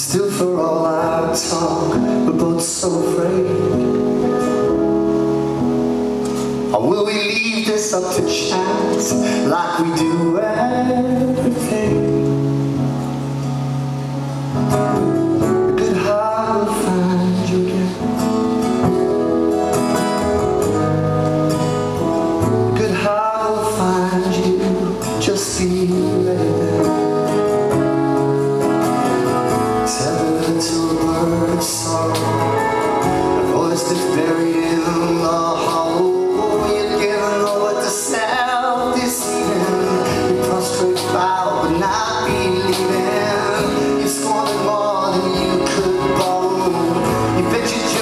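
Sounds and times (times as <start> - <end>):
man singing: 0.0 - 4.7, 6.3 - 12.8, 15.4 - 19.2, 22.3 - 27.8, 29.2 - 48.0
strummed acoustic guitar: 0.0 - 48.0.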